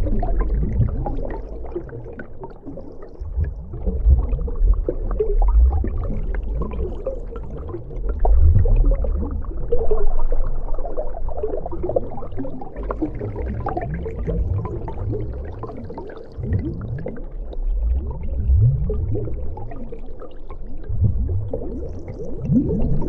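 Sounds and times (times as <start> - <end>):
deep underwater rumble: 0.0 - 23.0
water bubbling and gurgling: 0.0 - 23.0.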